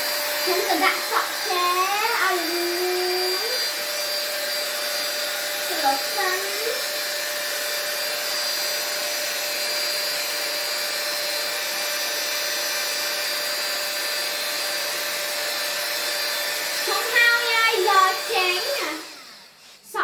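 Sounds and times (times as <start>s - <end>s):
hair styler blowing air: 0.0s - 20.0s.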